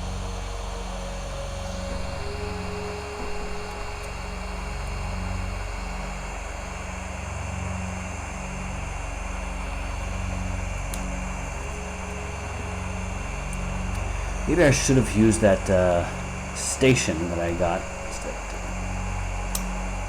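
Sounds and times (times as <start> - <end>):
hot-air tool blowing: 0.0 - 20.0
low pulsing hum: 0.0 - 20.0.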